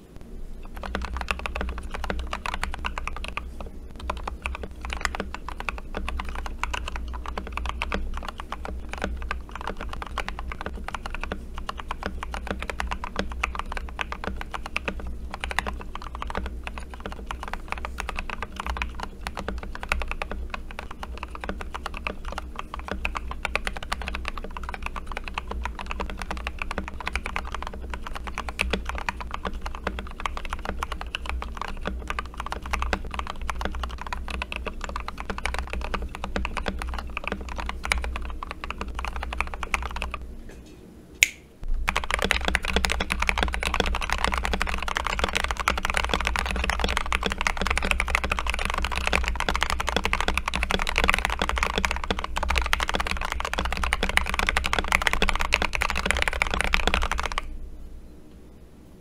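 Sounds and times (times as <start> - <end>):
typing on mechanical keyboard: 0.6 - 40.2, 41.8 - 57.5.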